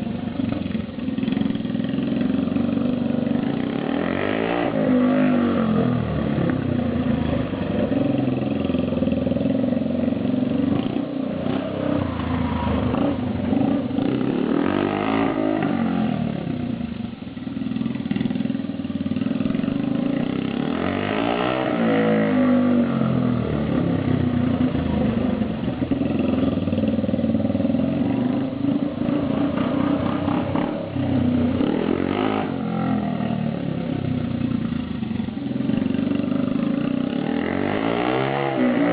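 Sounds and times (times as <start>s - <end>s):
unmuffled motorcycle engine revving: 0.0s - 38.9s.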